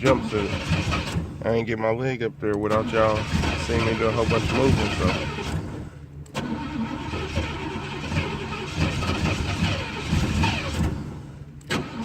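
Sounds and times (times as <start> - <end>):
engine cranking: 0.0 - 1.5, 2.5 - 12.0.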